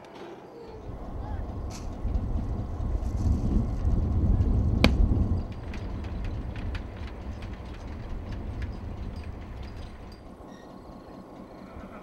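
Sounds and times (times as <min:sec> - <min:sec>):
low wind rumble on microphone: 0:00.7 - 0:12.0.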